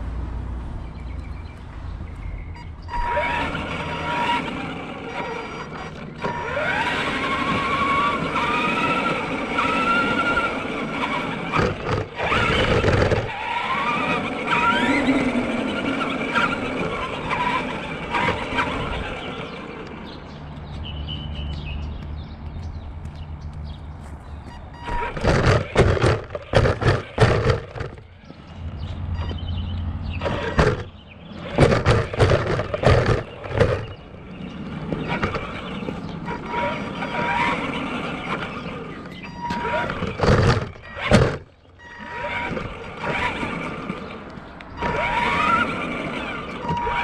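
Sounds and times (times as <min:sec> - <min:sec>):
toy truck electric motor whining: 0:02.6 - 0:20.2, 0:24.7 - 0:28.4, 0:29.1 - 0:47.0.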